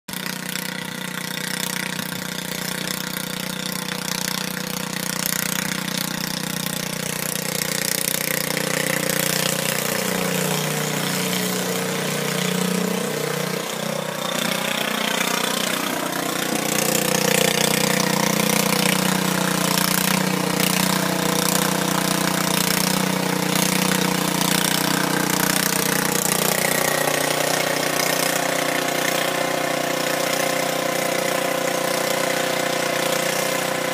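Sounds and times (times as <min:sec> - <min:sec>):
lawn tractor engine running: 0:00.1 - 0:33.9.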